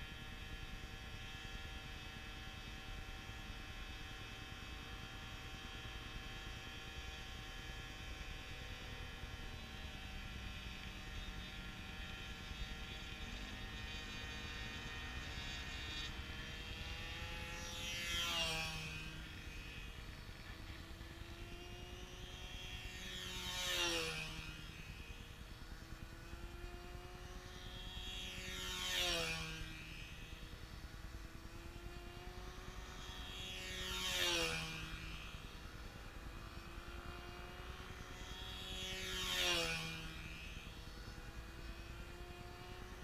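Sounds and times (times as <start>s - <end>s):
model aircraft motor buzzing: 0.0s - 43.0s.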